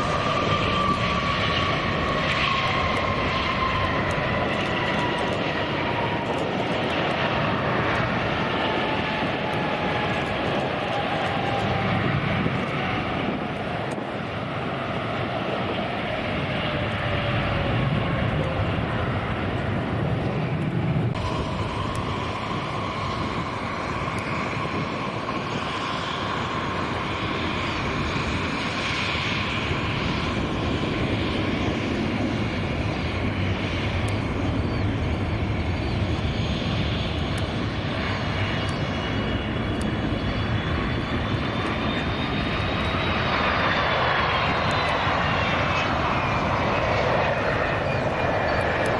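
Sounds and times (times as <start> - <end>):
jet engine whine: 0.0 - 48.9.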